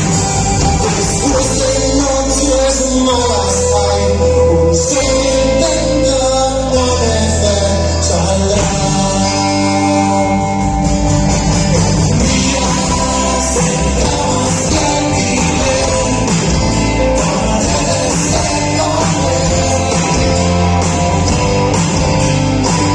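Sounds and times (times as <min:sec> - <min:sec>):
rock guitar and bass: 0:00.0 - 0:22.9.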